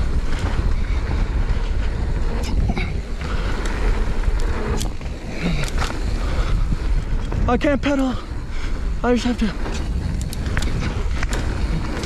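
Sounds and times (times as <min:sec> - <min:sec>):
bike clattering: 0:00.0 - 0:12.0
wind and tyre rumble: 0:00.0 - 0:12.0.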